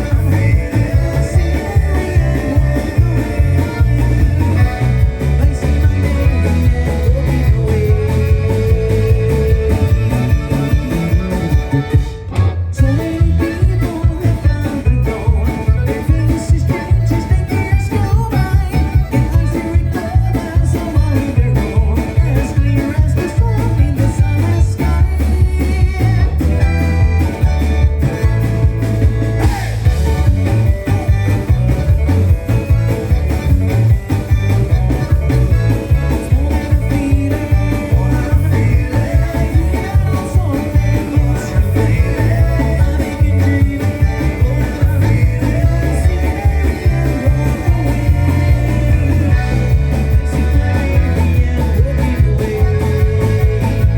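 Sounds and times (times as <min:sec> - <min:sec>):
person singing: 0:00.0 - 0:28.6, 0:29.3 - 0:53.9
acoustic guitar: 0:00.0 - 0:53.9
heavy drum beat: 0:00.0 - 0:53.9
live band playing: 0:00.0 - 0:53.9.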